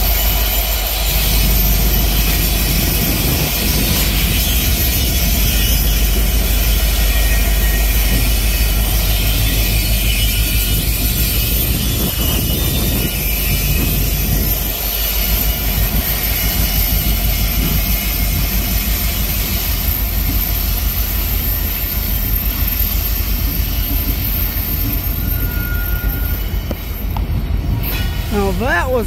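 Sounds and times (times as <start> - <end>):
diesel locomotive engine roar: 0.0 - 29.0
rumbling rail noise: 0.0 - 29.0.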